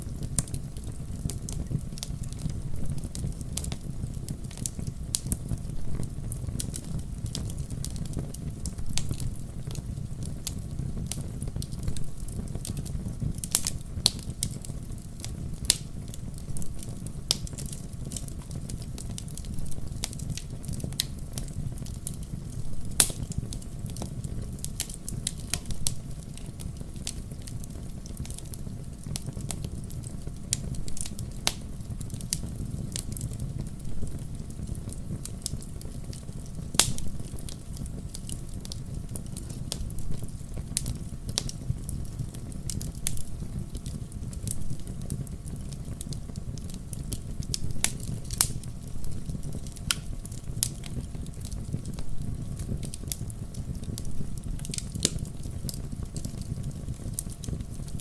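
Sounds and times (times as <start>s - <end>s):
campfire pops and snaps: 0.2s - 58.0s.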